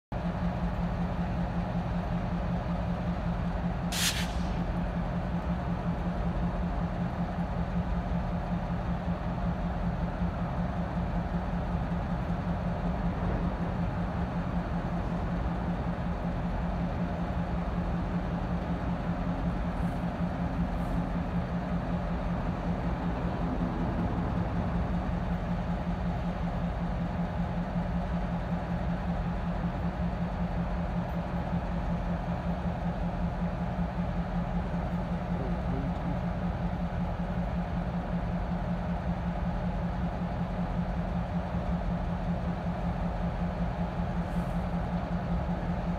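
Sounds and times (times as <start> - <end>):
diesel locomotives idling: 0.1 - 45.9.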